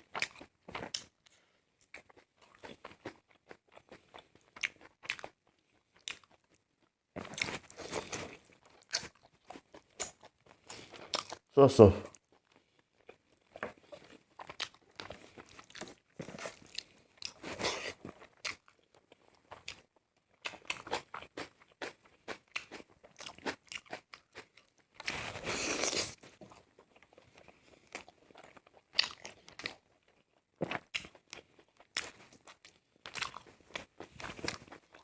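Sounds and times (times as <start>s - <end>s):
chewing and crunching food: 0.0s - 35.0s.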